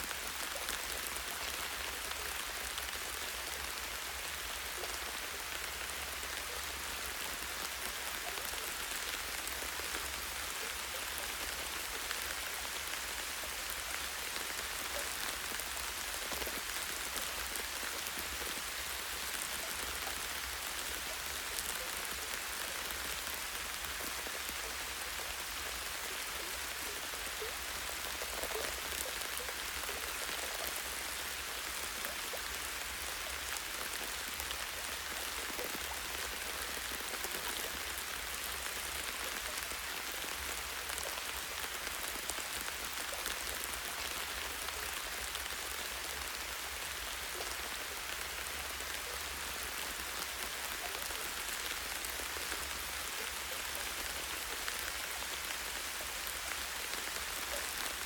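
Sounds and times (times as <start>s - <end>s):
light rain on leaves: 0.0s - 58.0s.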